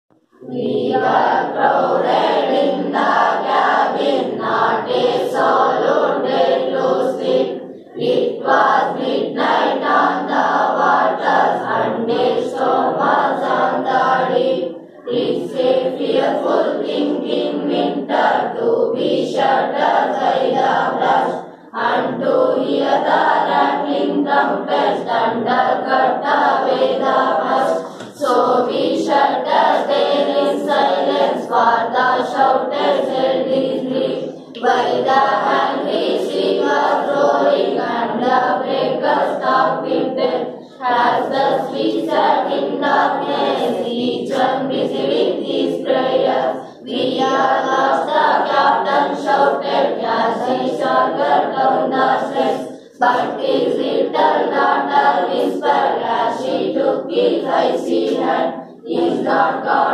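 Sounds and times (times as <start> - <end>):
children chanting in unison: 0.3 - 59.9.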